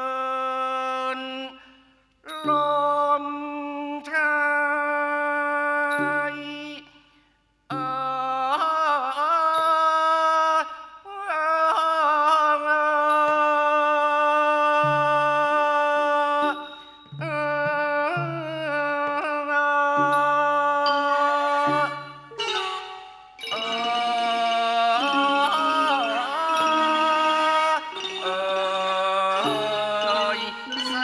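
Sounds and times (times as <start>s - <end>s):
person singing wavering phrases: 0.0s - 1.7s, 2.3s - 7.0s, 7.7s - 31.0s.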